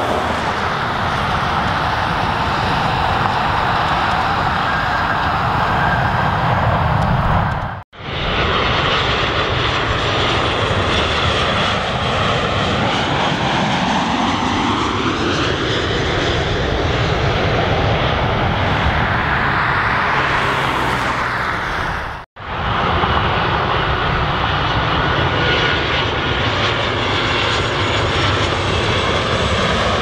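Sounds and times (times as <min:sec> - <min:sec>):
jet engines passing low: 0:00.0 - 0:30.0.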